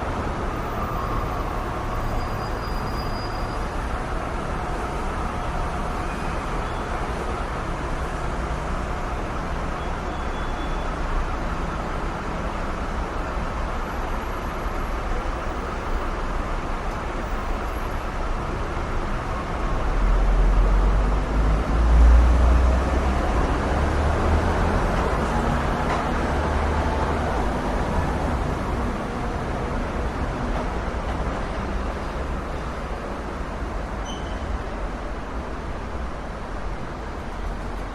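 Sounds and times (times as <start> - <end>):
passing vehicles and tyre noise: 0.0 - 37.9.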